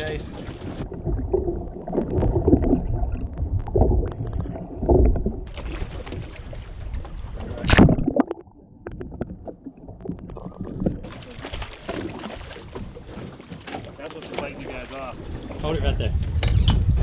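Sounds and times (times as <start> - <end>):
water sloshing: 0.0 - 16.4
wind: 0.0 - 17.0.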